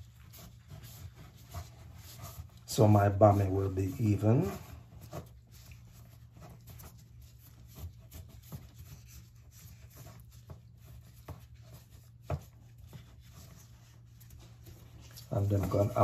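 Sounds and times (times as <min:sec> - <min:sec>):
faint rubbing in a tin: 0:00.0 - 0:16.0.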